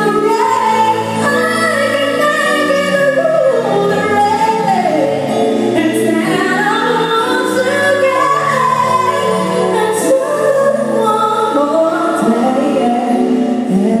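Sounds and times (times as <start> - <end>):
live band playing: 0.0 - 14.0
woman singing into a microphone: 0.0 - 14.0.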